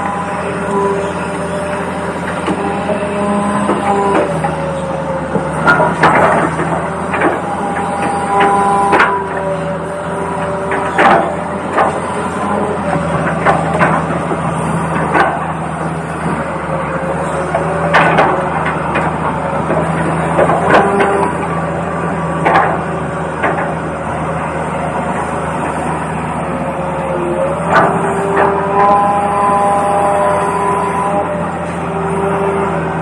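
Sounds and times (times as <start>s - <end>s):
small electric motors whining: 0.0s - 33.0s.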